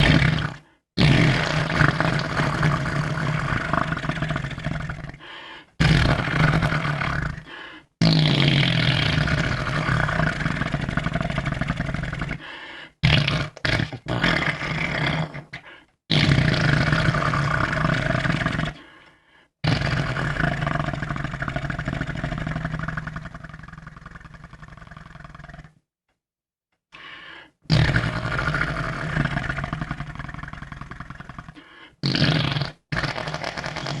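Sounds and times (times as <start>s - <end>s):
person making fart noises: 0.0s - 5.2s, 5.8s - 12.4s, 13.0s - 18.8s, 19.6s - 25.8s, 27.7s - 34.0s.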